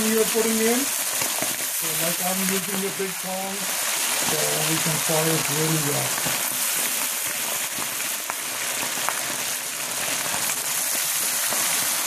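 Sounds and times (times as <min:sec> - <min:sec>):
chicken deep-frying in oil: 0:00.0 - 0:12.0
oil crackles: 0:00.0 - 0:12.0.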